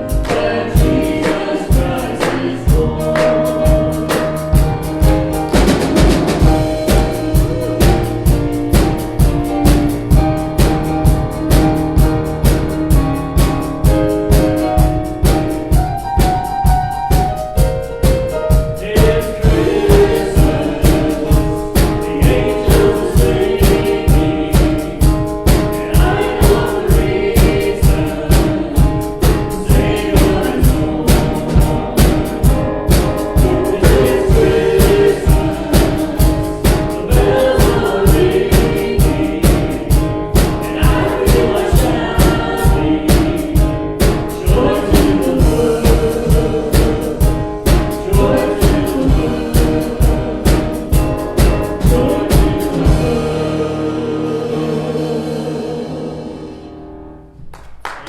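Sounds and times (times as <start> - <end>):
worship song with singing: 0.0 - 12.7, 13.4 - 56.8
steady strong beat: 0.0 - 54.7.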